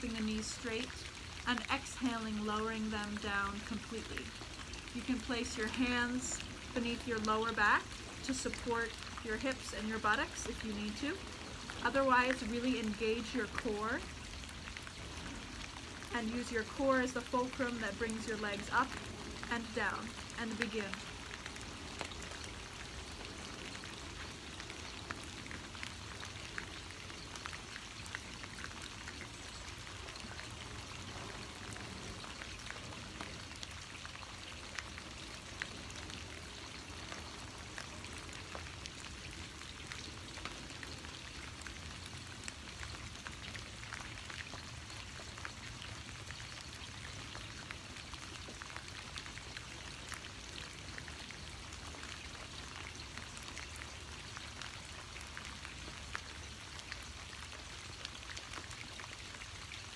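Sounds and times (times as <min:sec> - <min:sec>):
steady rain falling: 0:00.0 - 0:59.9
ticks of raindrops: 0:00.0 - 0:59.9.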